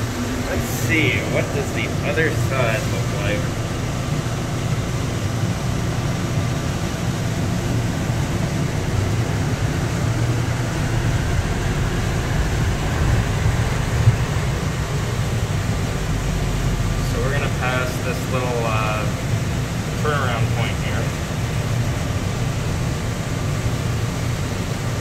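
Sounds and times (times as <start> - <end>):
people-mover car rumble and hum: 0.0 - 25.0.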